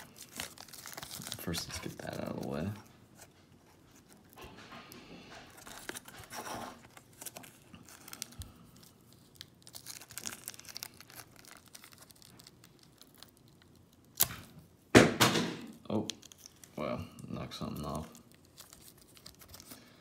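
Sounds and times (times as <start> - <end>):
plastic bag crinkling and tearing: 0.0 - 4.4, 5.5 - 14.7, 15.7 - 20.0.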